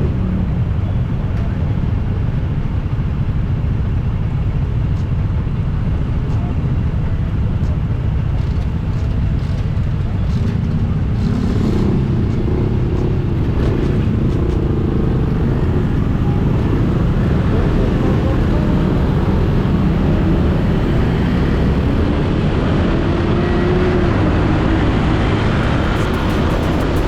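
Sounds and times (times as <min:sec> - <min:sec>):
motorcycle engine running: 0:00.0 - 0:22.4, 0:25.5 - 0:27.0.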